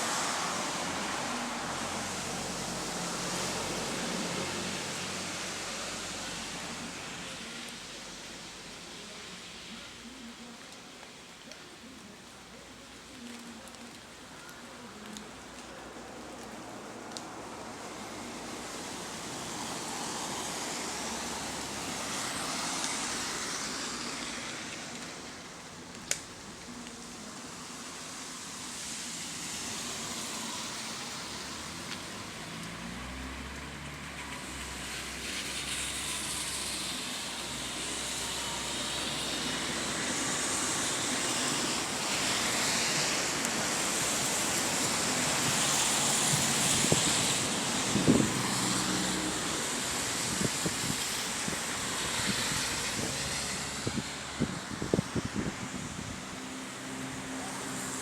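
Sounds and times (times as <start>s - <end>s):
road traffic rush: 0.0s - 58.0s.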